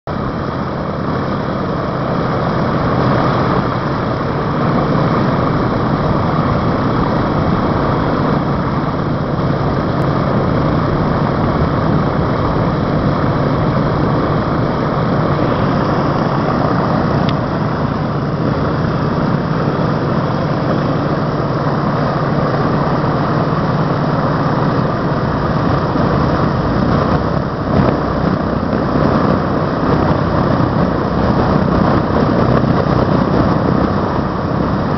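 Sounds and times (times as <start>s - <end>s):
radial aircraft engines idling: 0.1s - 34.9s.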